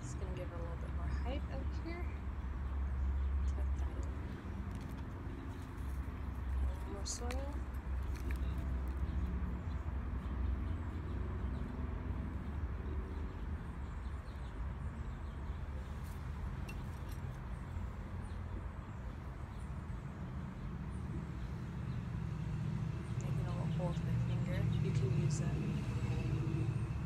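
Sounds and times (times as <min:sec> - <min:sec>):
distant traffic rumble: 0:00.0 - 0:27.0.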